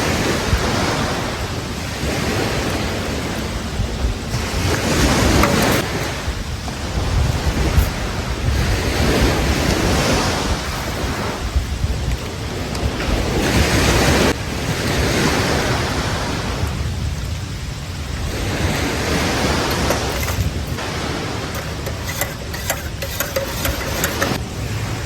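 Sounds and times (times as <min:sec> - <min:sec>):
waves washing onto beach: 0:00.0 - 0:25.0
wind buffeting microphone: 0:00.0 - 0:25.0.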